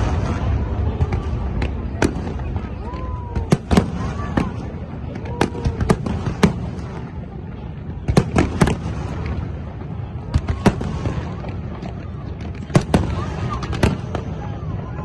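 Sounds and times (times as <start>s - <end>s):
continuous low rumble: 0.0s - 15.0s
fireworks bursting with sharp bangs: 0.0s - 15.0s.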